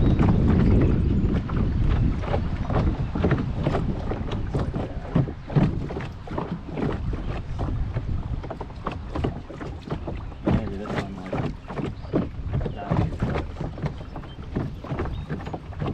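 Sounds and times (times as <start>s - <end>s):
water slapping boat hull: 0.0s - 15.9s
wind rumbling on microphone: 0.0s - 15.9s.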